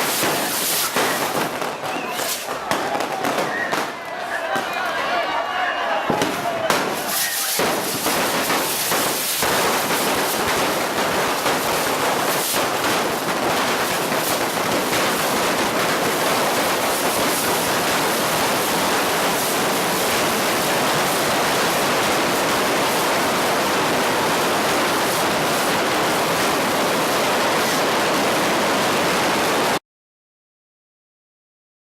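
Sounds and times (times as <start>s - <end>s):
firework bangs: 0.0s - 29.8s
fireworks crackling: 0.0s - 29.8s.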